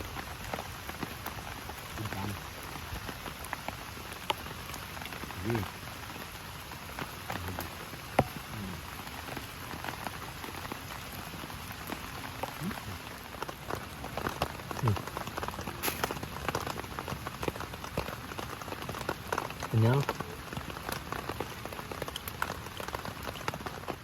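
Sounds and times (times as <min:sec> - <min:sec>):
heavy rain falling: 0:00.0 - 0:24.0
raindrops ticking on surface: 0:00.0 - 0:24.0.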